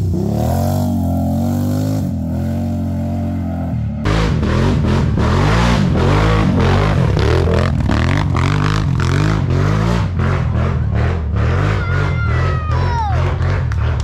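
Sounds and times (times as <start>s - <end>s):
atv engines revving: 0.0s - 14.0s.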